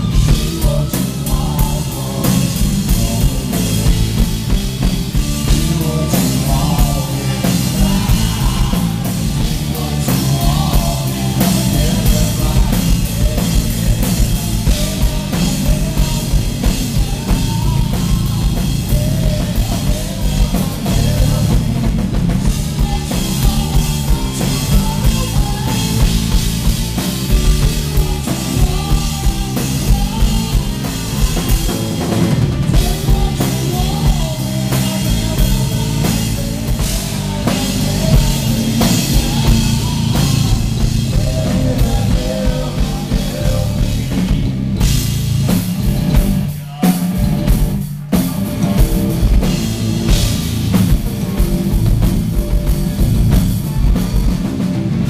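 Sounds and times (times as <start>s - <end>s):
heavy metal band playing live: 0.0s - 55.0s.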